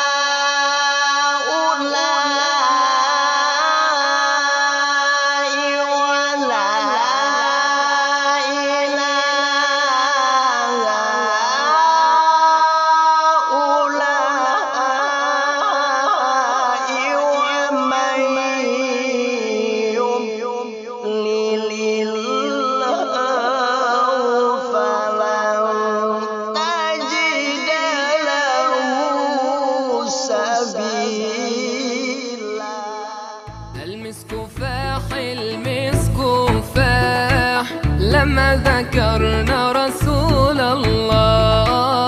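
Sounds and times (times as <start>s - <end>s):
man reciting melismatic chant: 0.0s - 42.0s.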